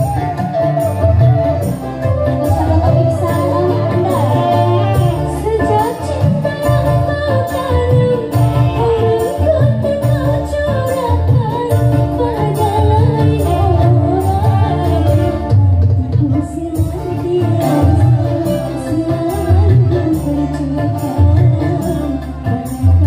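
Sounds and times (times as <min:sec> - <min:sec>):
keyboard: 0:00.0 - 0:23.0
mandolin: 0:00.0 - 0:23.0
woman singing into microphone: 0:00.0 - 0:23.0.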